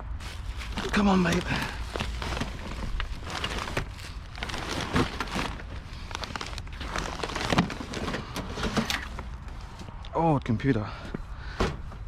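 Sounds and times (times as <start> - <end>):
rustling: 0.2 - 9.9.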